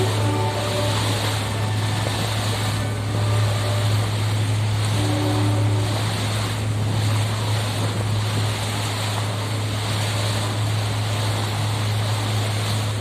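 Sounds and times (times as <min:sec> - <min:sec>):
boat engine droning: 0:00.0 - 0:13.0
rushing water: 0:00.0 - 0:13.0.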